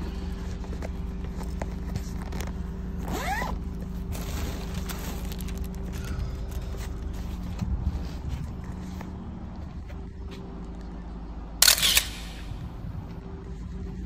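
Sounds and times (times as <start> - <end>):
road and engine noise inside car: 0.0 - 11.6, 12.5 - 14.0.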